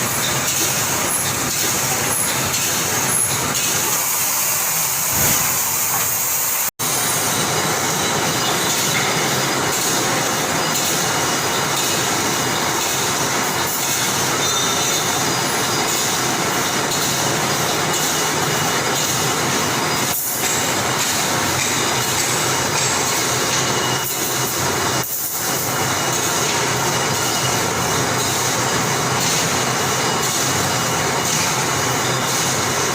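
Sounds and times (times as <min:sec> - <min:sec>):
welding machine clattering: 0:00.0 - 0:32.9.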